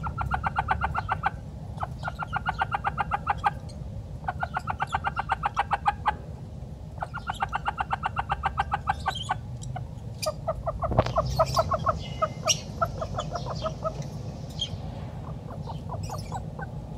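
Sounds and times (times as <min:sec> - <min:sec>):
hen clucking: 0:00.0 - 0:06.3, 0:06.9 - 0:16.9.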